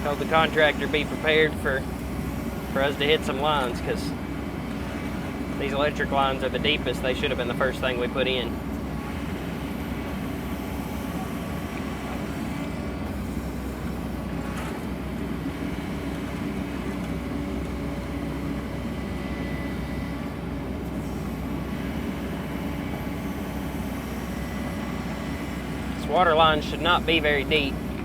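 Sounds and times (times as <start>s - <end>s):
excavator engine and hydraulics: 0.0s - 28.0s.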